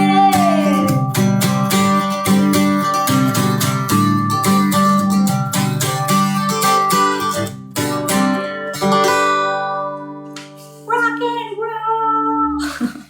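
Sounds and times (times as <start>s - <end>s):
acoustic guitar strumming: 0.0s - 11.5s.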